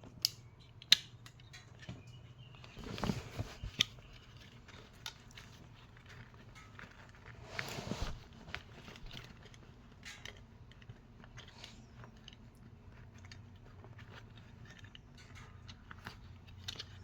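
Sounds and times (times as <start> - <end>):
objects clicking and crinkling: 0.0 - 17.0.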